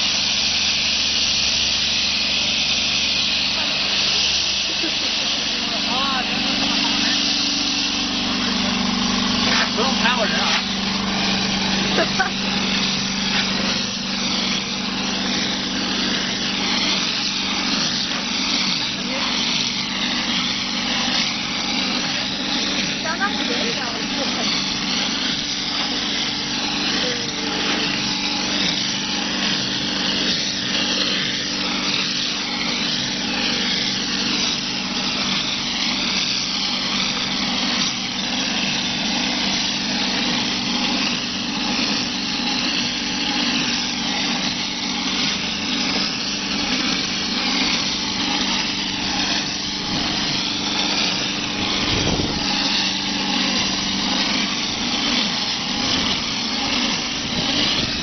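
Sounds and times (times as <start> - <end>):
hiss of spray nozzle: 0.0 - 8.7, 9.3 - 58.0
machine hum: 0.0 - 58.0.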